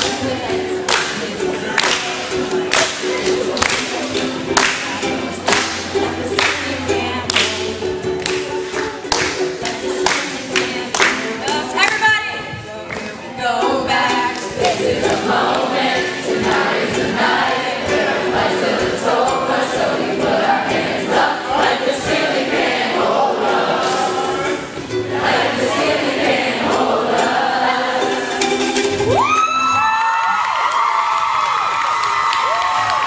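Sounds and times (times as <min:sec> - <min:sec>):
many voices singing together: 0:00.0 - 0:12.0, 0:12.6 - 0:29.1
ukulele strumming: 0:00.0 - 0:29.9.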